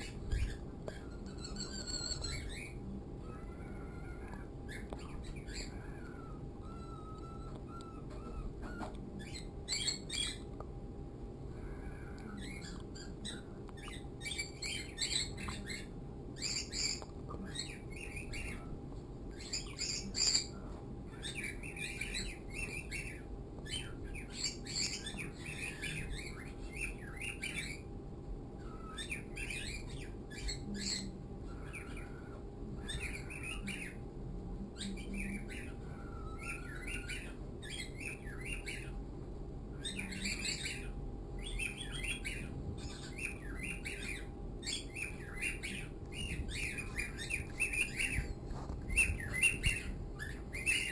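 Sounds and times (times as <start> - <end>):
pet birds chirping and squawking: 0.0 - 10.6, 11.4 - 39.1, 39.7 - 50.9.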